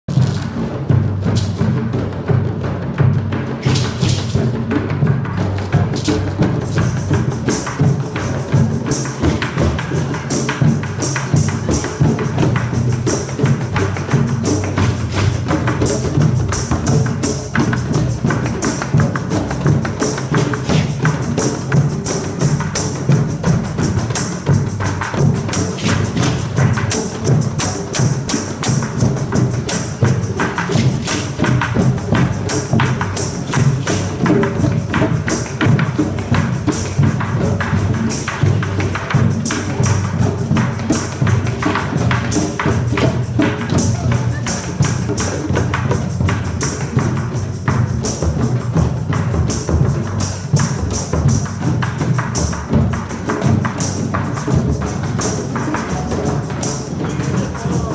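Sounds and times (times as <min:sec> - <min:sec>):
drum circle playing: 0:00.1 - 0:57.9.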